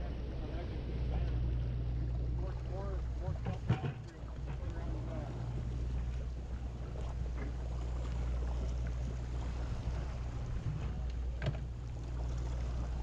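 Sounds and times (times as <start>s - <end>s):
boat machinery drone: 0.0s - 13.0s.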